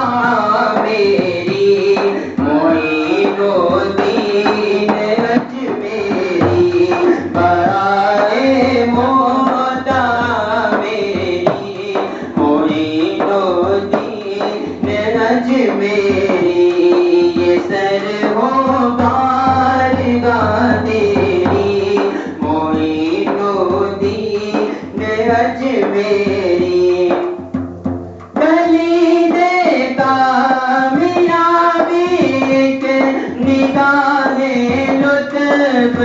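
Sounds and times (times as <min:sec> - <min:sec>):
man singing into a microphone: 0:00.0 - 0:27.6, 0:28.3 - 0:36.0
frame drum beating: 0:00.0 - 0:36.0.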